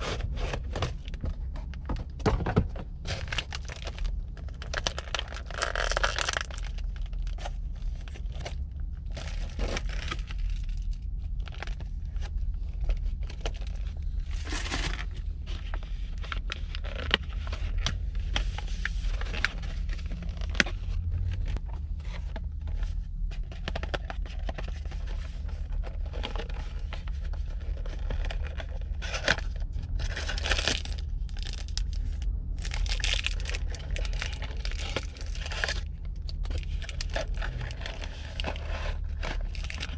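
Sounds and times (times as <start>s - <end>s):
steady low hum: 0.0s - 39.9s
crinkly material rustling and tearing: 3.0s - 39.9s.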